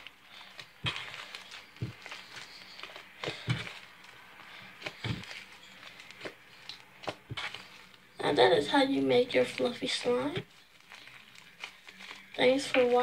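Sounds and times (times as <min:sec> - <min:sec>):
slime squishing: 0:00.0 - 0:13.0.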